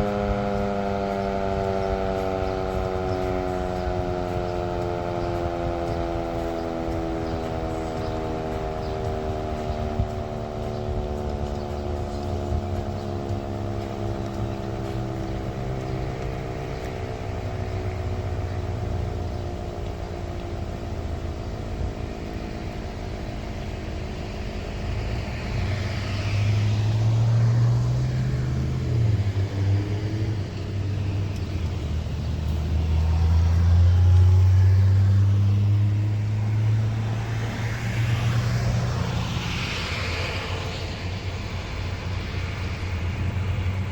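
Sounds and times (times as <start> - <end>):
low vehicle rumble: 0.0 - 43.9
storm siren winding down: 0.0 - 43.9.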